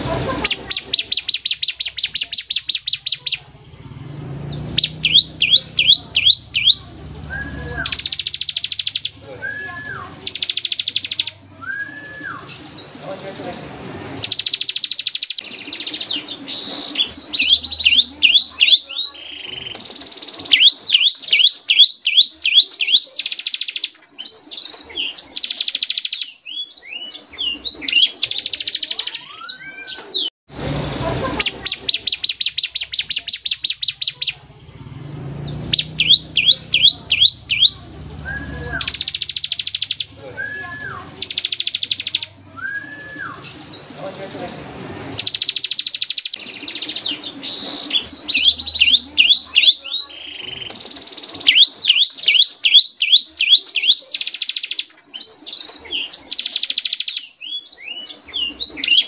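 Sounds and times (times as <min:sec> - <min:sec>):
bird singing rapid high notes: 0:00.0 - 0:59.0.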